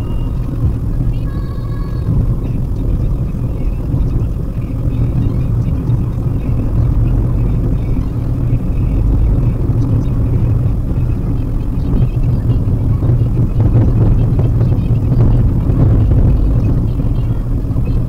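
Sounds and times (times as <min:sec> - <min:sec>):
car cabin engine and tyre rumble: 0:00.0 - 0:18.0.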